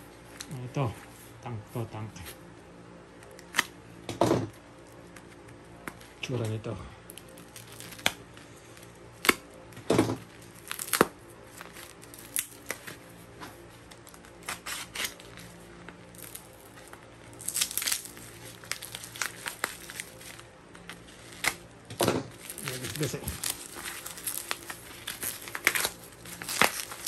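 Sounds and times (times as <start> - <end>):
plastic wrap crinkling and tearing: 4.8 - 27.0.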